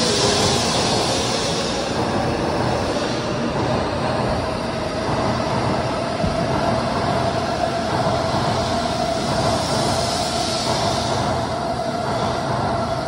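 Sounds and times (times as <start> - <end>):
train rushing and rumbling: 0.0 - 13.0.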